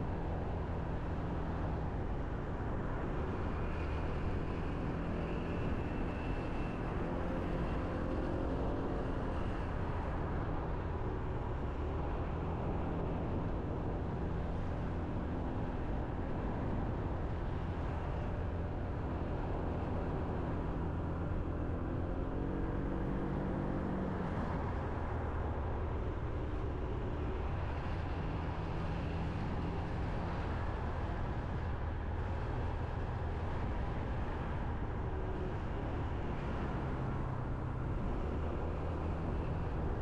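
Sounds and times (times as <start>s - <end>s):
road noise: 0.0s - 40.0s.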